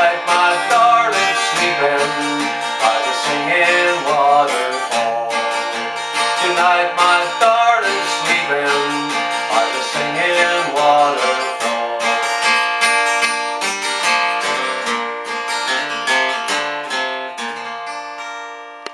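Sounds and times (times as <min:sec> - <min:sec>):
acoustic guitar strumming: 0:00.0 - 0:18.9.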